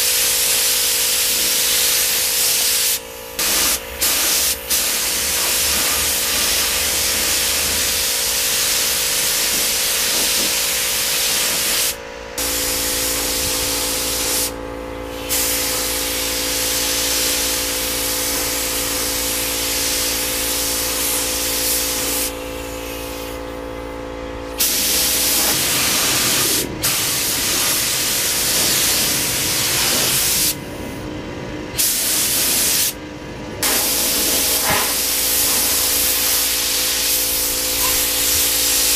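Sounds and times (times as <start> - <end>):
spray gun hissing: 0.0 - 23.4, 24.5 - 31.0, 31.8 - 33.0, 33.6 - 38.9
steady hum: 3.0 - 38.9.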